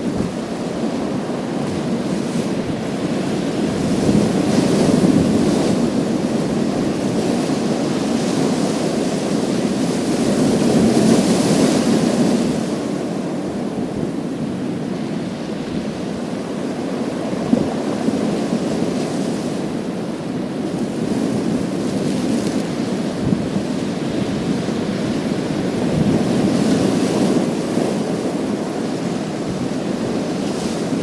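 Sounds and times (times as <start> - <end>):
surf on a pebble beach: 0.0 - 31.0.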